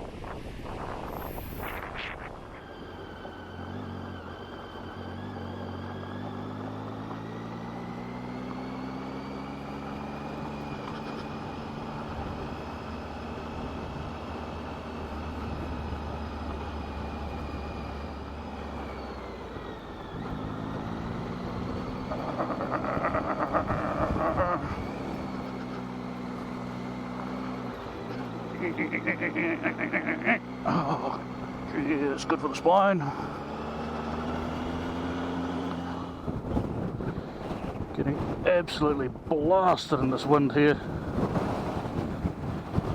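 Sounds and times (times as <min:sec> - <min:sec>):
motorcycle engine: 0:00.2 - 0:38.5.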